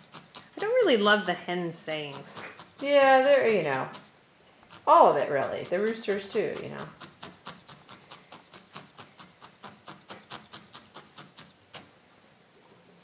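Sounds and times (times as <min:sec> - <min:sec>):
felting needle poking wool: 0:00.0 - 0:12.0.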